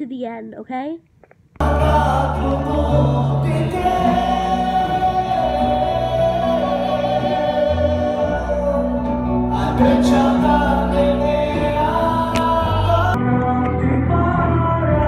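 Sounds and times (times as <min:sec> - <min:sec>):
person singing into microphone: 0:01.6 - 0:15.0
sustained instrumental accompaniment: 0:01.6 - 0:15.0.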